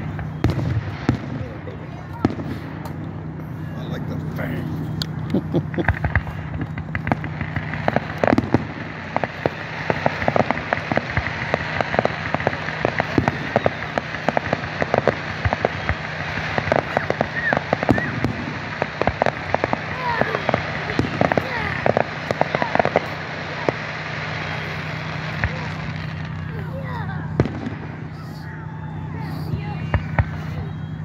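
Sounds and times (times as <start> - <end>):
continuous crackling hiss: 0.0 - 31.0
fireworks bangs and crackles: 0.0 - 31.0.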